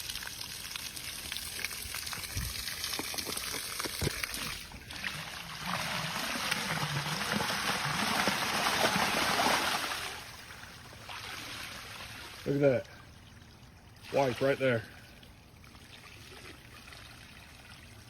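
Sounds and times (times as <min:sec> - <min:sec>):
water rushing from a pipe: 0:00.0 - 0:18.0.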